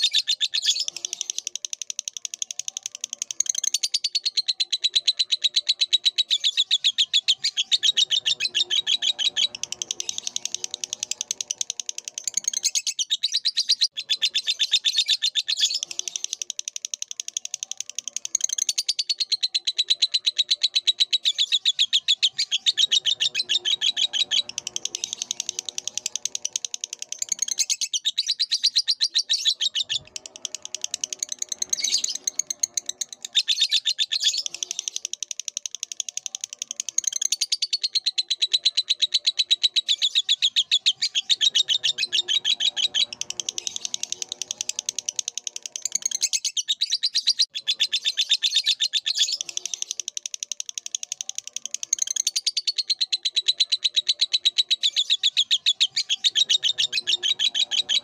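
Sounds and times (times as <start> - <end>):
bird chirping and twittering: 0.0 - 58.0.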